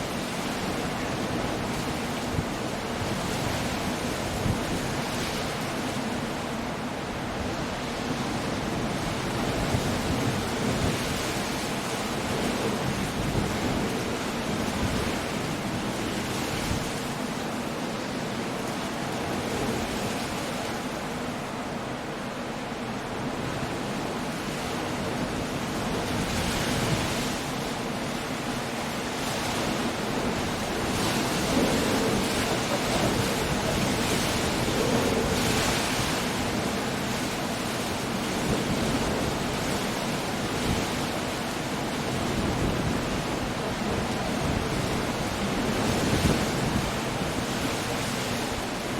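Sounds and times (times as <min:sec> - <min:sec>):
storm waves breaking on rocks: 0:00.0 - 0:21.3, 0:23.4 - 0:48.9
wind: 0:00.0 - 0:48.9.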